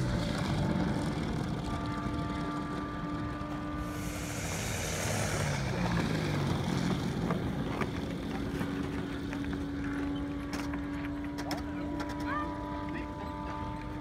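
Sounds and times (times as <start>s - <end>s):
model plane propeller engine droning: 0.0s - 14.0s.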